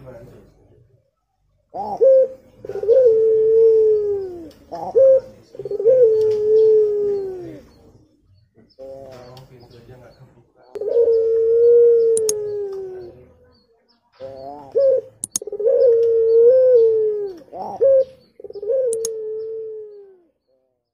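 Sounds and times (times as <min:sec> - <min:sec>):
dove cooing: 0:01.7 - 0:20.7.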